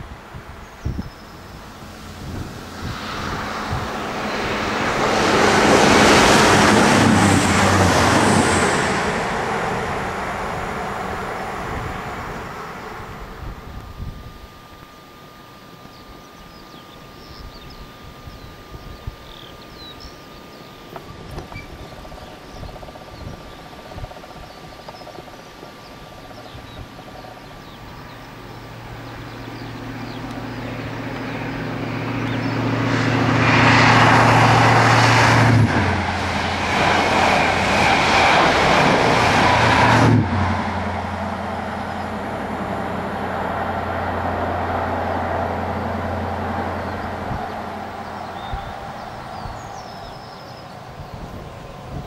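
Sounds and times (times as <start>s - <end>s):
diesel train engine hum: 0.0s - 52.0s
train coaches rushing past: 1.2s - 13.4s, 20.9s - 52.0s.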